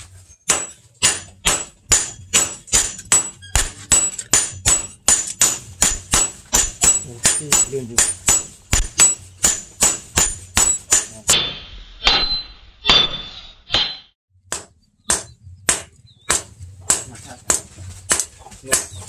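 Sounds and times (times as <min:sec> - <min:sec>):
hammer striking metal on anvil: 0:00.5 - 0:19.0.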